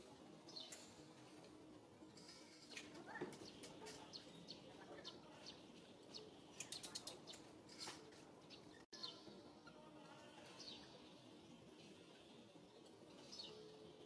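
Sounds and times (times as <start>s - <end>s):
small birds chirping: 0.4s - 1.4s, 2.2s - 14.0s.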